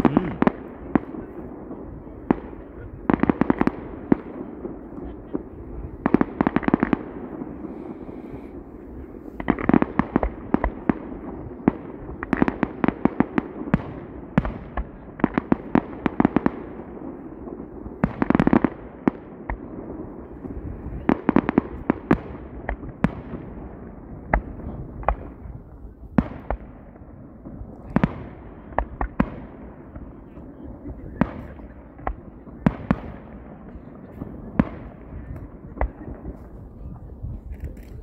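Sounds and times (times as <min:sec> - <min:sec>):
fireworks bursting with bangs and crackles: 0:00.0 - 0:38.0.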